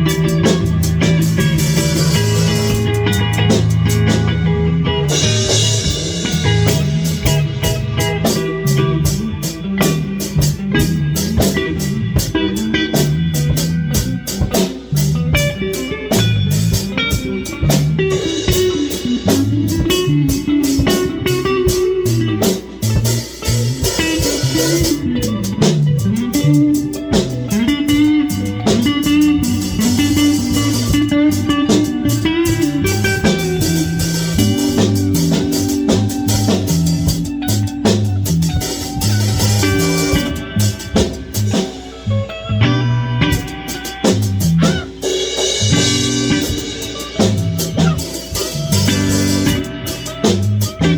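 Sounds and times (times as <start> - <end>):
drum kit: 0.0 - 50.9
electric guitar: 0.0 - 50.9
walking bass line: 0.0 - 50.9.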